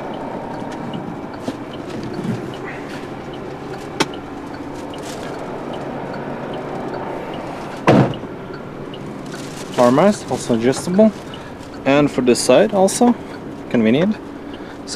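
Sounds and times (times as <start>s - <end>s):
diesel truck engine idling: 0.0s - 14.9s.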